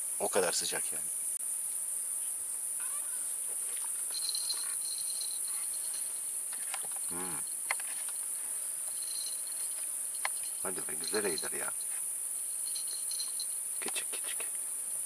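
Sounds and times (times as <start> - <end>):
insect chorus shrilling: 0.0 - 15.0
faint chirps: 0.3 - 15.0.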